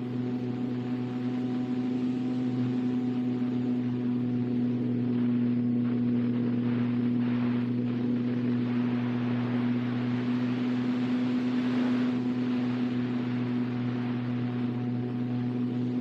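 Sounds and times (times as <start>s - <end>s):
model airplane motor and propeller: 0.0s - 16.0s
wind on microphone: 0.0s - 16.0s.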